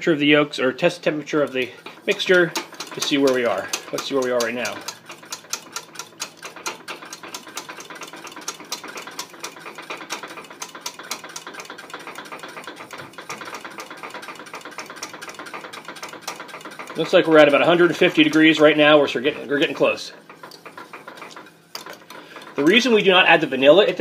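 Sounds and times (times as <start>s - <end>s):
utensil scraping a saucepan: 0.7s - 24.0s.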